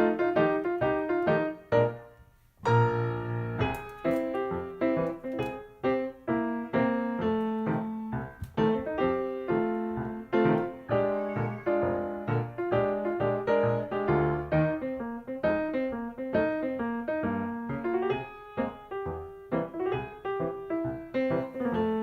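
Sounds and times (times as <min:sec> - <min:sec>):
light piano tune: 0:00.0 - 0:22.0.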